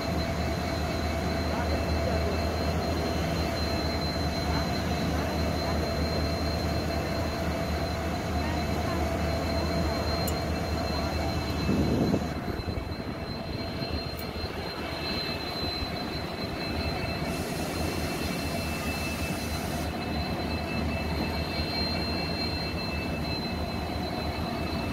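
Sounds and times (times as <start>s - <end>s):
high whine: 0.0s - 24.9s
train rumbling: 0.0s - 24.9s.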